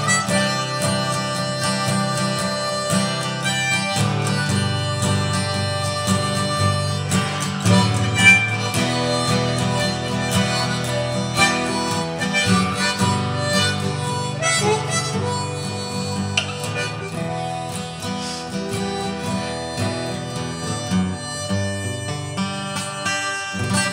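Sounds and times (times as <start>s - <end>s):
acoustic guitar accompaniment: 0.0s - 23.9s
harmonica melody: 0.0s - 23.9s.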